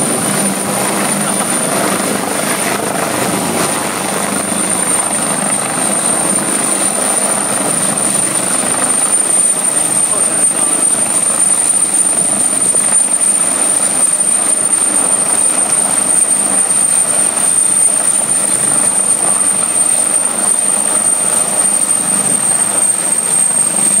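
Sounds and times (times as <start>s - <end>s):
helicopter rotor and engine: 0.0s - 24.0s
high-pitched turbine whine: 0.0s - 24.0s.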